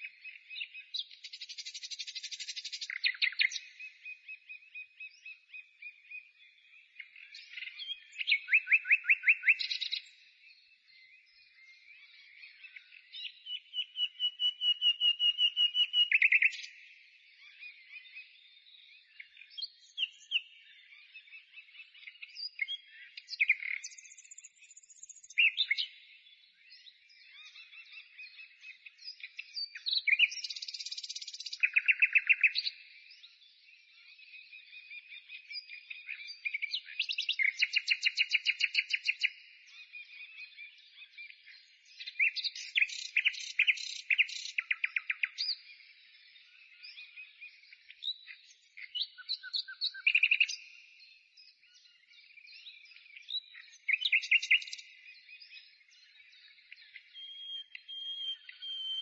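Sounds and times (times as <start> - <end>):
songbird singing trills and whistles: 0.0 - 59.0.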